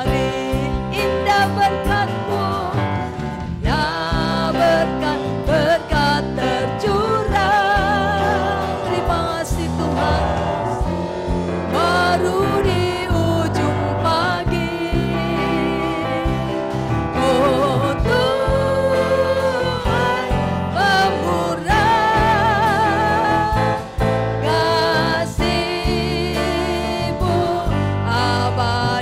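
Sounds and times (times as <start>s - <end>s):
live band playing: 0.0s - 29.0s
several voices singing: 3.6s - 29.0s.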